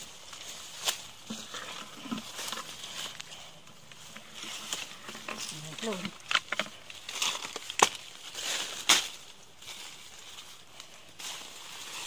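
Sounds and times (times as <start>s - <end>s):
leaves rustling: 0.0s - 12.0s
twigs and branches cracking: 0.0s - 12.0s.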